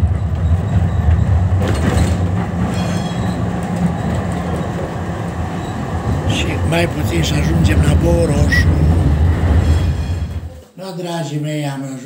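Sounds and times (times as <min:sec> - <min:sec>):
tram wheels rumbling on rails: 0:00.0 - 0:10.5.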